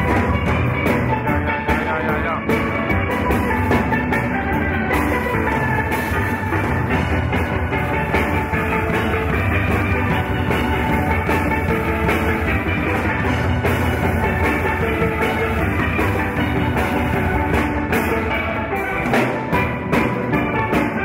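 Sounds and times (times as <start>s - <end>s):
drums: 0.0s - 21.0s
steelpans playing a melody: 0.0s - 21.0s.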